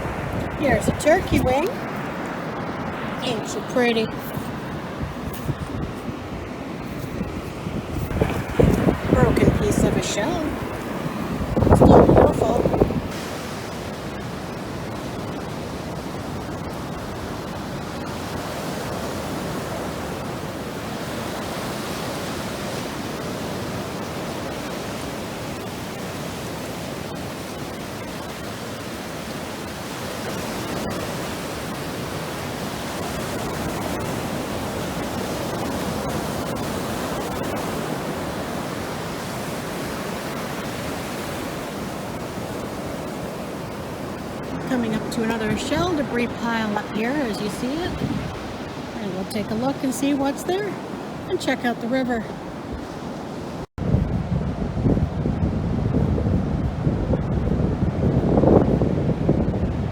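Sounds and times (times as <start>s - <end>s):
ocean surf: 0.0s - 59.9s
wind along the shore: 0.0s - 59.9s.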